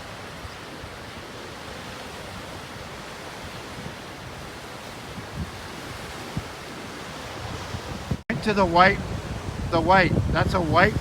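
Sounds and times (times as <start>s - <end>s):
ocean surf washing on shore: 0.0s - 11.0s
wind bumps on microphone: 0.0s - 11.0s.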